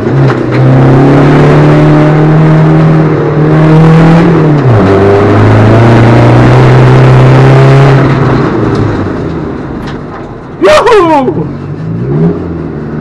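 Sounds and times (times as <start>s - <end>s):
diesel engine revving hard: 0.0s - 9.1s, 11.4s - 13.0s.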